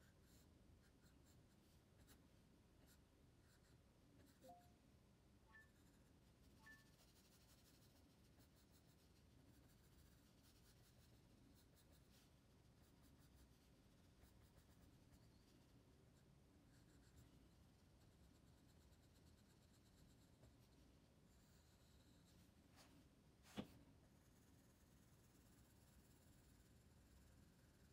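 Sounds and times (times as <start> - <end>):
pencil scratching on paper: 0.0 - 2.2, 2.8 - 4.7, 5.6 - 22.9, 23.5 - 27.9.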